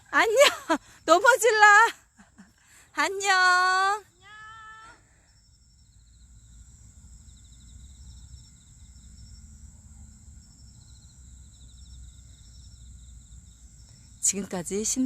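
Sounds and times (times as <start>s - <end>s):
crickets and insects chirping: 0.0s - 15.0s.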